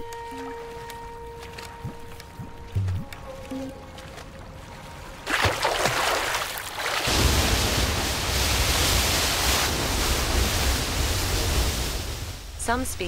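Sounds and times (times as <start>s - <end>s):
water splashing: 0.0s - 12.5s.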